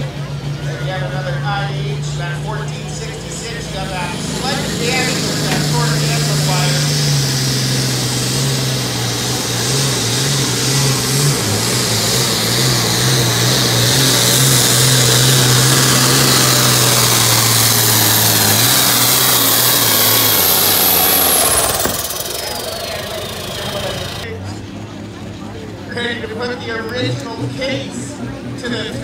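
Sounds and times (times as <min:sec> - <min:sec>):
diesel tractor engine at full load: 0:00.0 - 0:29.0
high turbo whine: 0:00.0 - 0:29.0.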